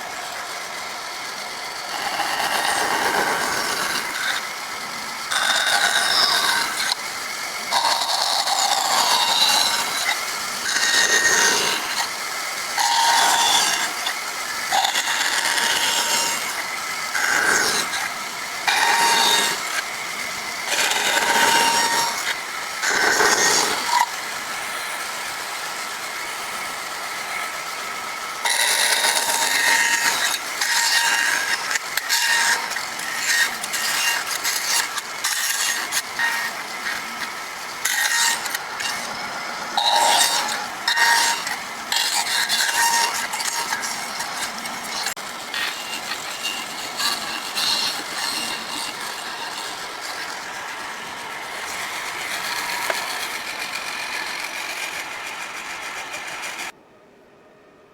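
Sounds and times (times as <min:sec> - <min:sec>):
chainsaw cutting wood: 0:00.8 - 0:24.3, 0:27.9 - 0:56.7.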